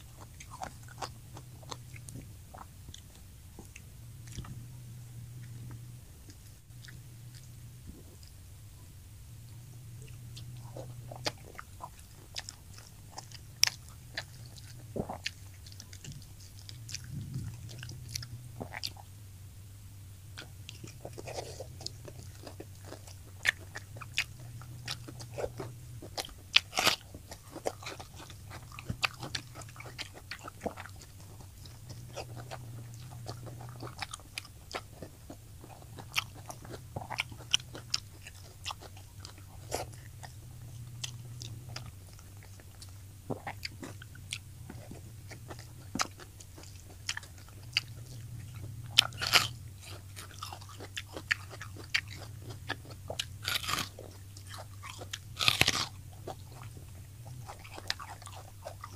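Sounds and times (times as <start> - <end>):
crunchy chewing of fried fish: 0.0 - 58.9
steady low hum: 0.0 - 58.9.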